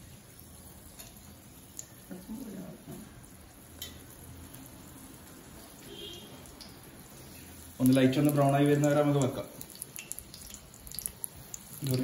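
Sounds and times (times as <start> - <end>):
pastries sizzling in hot oil: 0.0 - 12.0.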